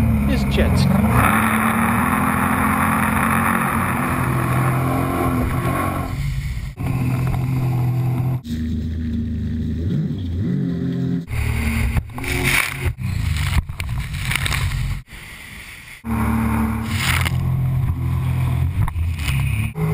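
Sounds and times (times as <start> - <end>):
jet ski engine: 0.0 - 19.9.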